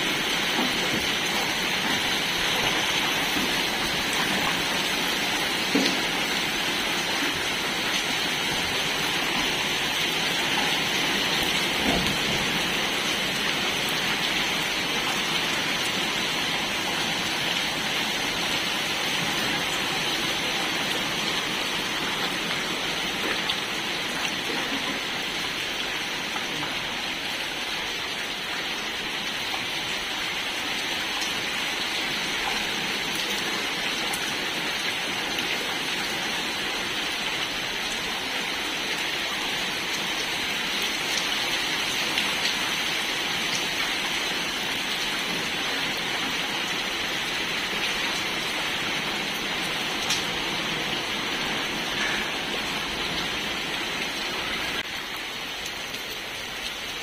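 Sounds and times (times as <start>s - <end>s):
heavy rain on ground: 0.0s - 57.0s
rain taps: 0.0s - 57.0s.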